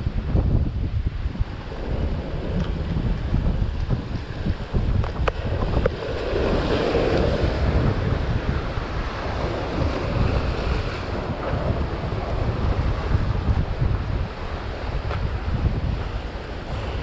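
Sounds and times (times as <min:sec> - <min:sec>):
wind buffeting microphone: 0:00.0 - 0:17.0
surf breaking on rocks: 0:01.2 - 0:17.0.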